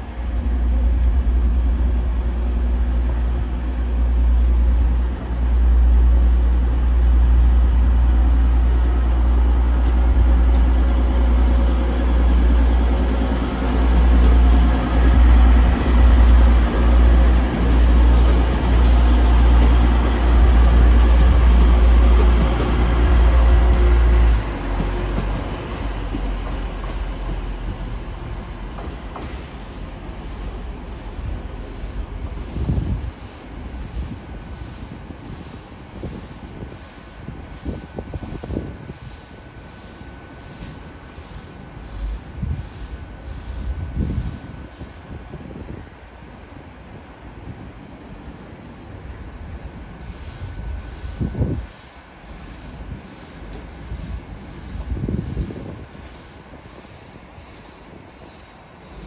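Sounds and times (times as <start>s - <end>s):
diesel train engine departing: 0.0s - 46.4s, 47.2s - 59.0s.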